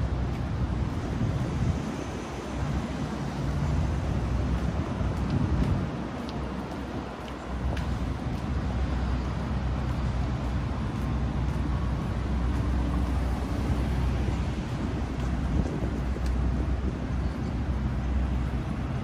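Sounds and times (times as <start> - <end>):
faint engine hum: 0.0 - 19.0
traffic rumble: 0.0 - 19.0.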